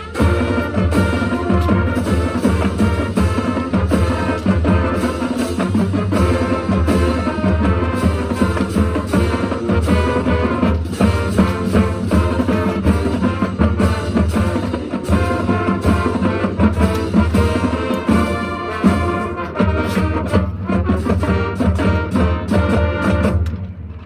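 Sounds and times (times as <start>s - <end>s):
brass and saxophone chords: 0.0s - 23.4s
steady drum beat: 0.0s - 23.6s
marching band playing: 0.0s - 24.0s.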